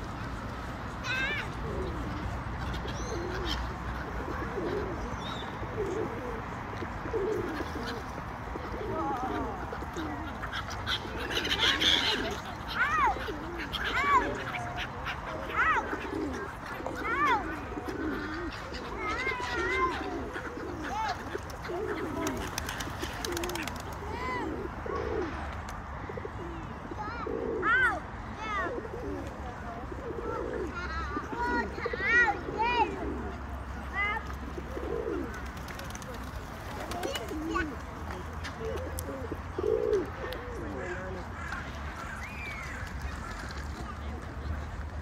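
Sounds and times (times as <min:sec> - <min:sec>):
pigeons cooing: 0:01.0 - 0:45.0.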